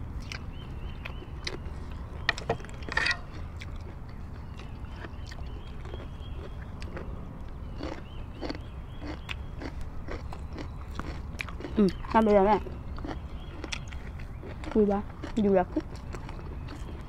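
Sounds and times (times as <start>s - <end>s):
food crunching: 0.2s - 17.0s.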